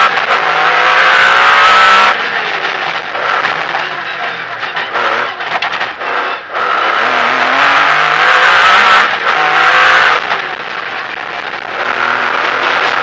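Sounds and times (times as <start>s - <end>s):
rally car engine from cabin: 0.0s - 13.0s.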